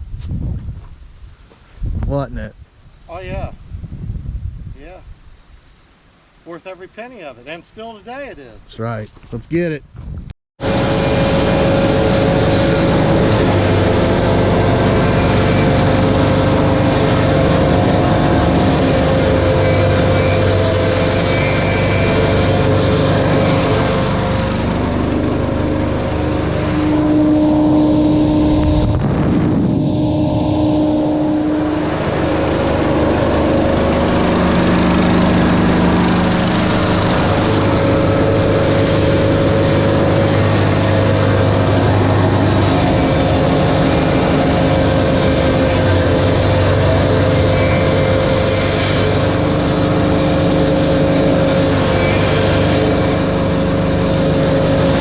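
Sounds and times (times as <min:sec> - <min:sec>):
engine drone: 0:10.6 - 0:55.0
mulch blower rushing air: 0:10.6 - 0:55.0.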